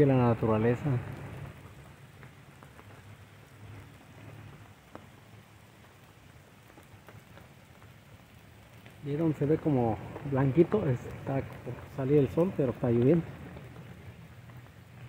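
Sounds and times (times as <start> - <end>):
rain hiss: 0.0 - 15.0
single raindrops ticking: 0.0 - 15.0.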